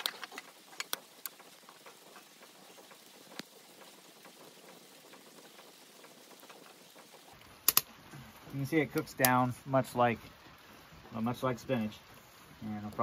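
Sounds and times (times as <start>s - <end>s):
sizzling and crackling in saucepan: 0.0s - 13.0s.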